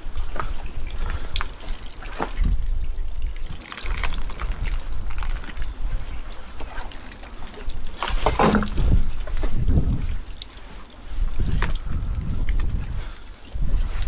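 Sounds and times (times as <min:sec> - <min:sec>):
water splashing and trickling: 0:00.0 - 0:14.0
wind rumbling on microphone: 0:00.0 - 0:14.0.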